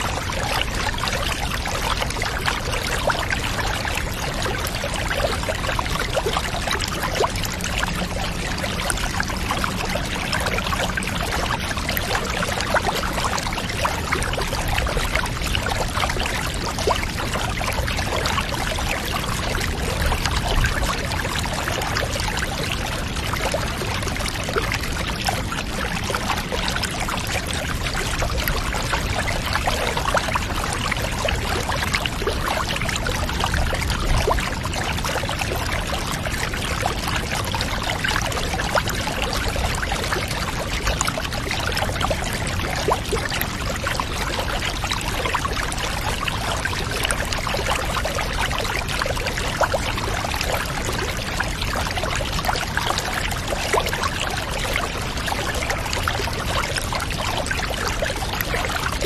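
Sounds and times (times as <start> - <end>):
water pouring and splashing: 0.0 - 59.0.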